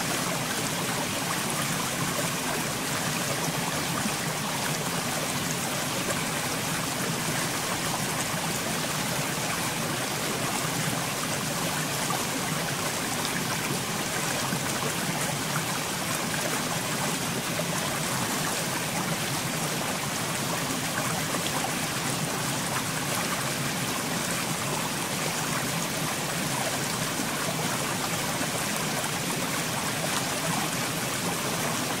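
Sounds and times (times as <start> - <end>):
running water rushing: 0.0 - 32.0.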